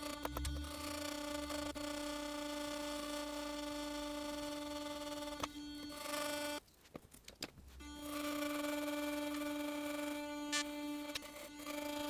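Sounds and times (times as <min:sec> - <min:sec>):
electric toothbrush humming: 0:00.0 - 0:06.6, 0:07.8 - 0:12.0.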